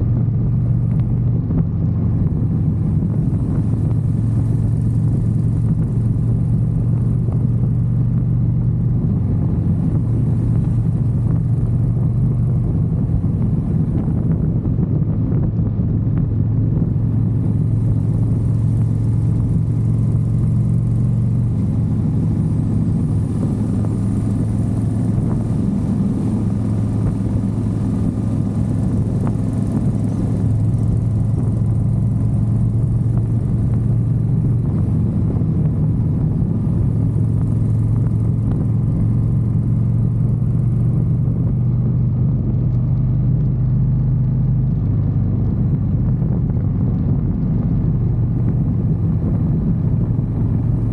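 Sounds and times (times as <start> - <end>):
motorcycle engine cruising: 0.0 - 50.9
road and wind noise: 0.0 - 50.9.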